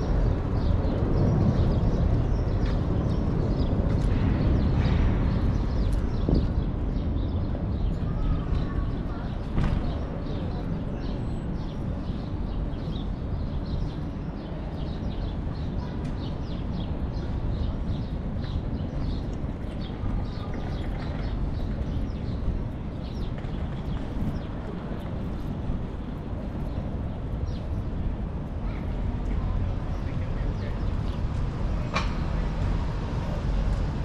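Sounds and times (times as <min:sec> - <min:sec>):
wind and road noise rumble: 0:00.0 - 0:34.0.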